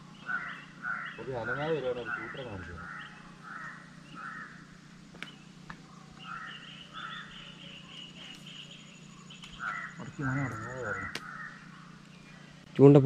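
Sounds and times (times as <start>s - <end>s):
bird harsh calls: 0.0s - 12.7s
bird chattering call: 0.1s - 12.5s.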